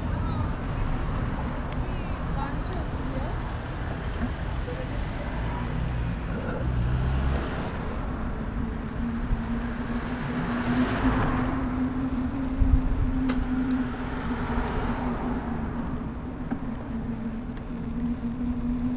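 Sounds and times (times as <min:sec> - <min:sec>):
traffic hum and rumble: 0:00.0 - 0:18.9
car passing: 0:02.3 - 0:18.9.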